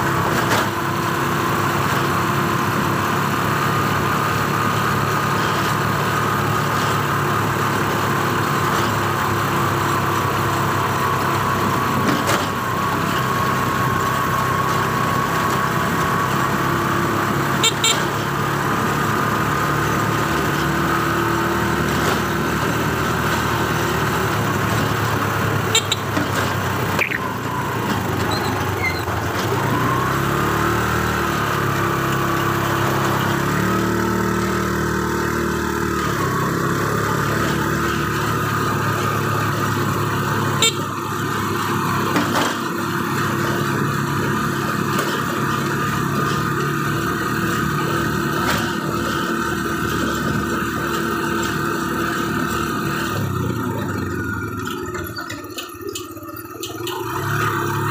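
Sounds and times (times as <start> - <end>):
small vehicle engine running: 0.0 - 57.9.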